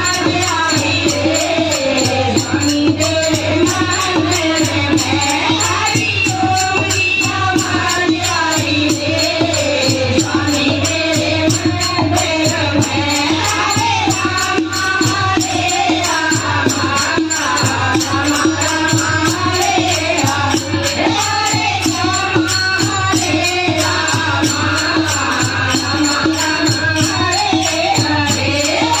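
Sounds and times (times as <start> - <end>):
group singing devotional song: 0.0 - 29.0
rattling percussion beat: 0.0 - 29.0.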